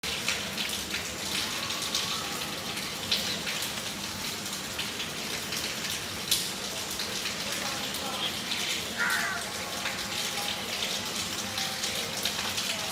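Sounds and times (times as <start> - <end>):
close raindrops striking: 0.0 - 12.9
rain falling steadily: 0.0 - 12.9.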